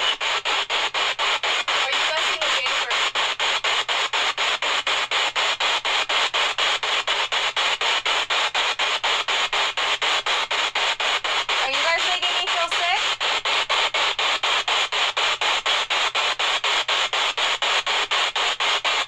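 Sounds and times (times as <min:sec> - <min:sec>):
radio static bursts: 0:00.0 - 0:19.0.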